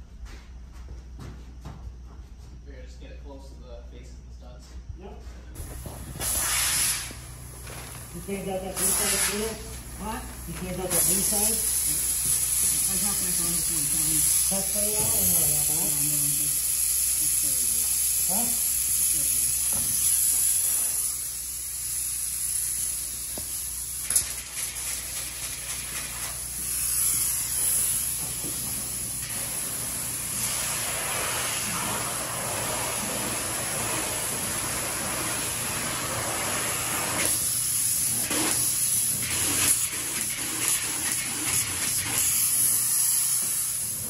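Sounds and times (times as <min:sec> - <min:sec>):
spray foam gun hissing: 0:05.6 - 0:44.0.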